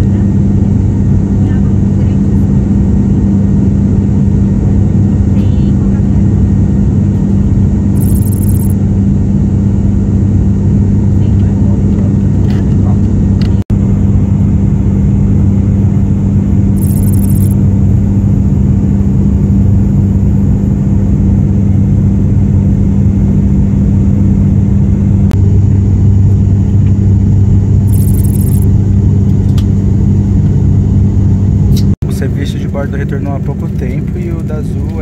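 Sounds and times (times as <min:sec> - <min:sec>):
turboprop cabin drone: 0:00.0 - 0:35.0.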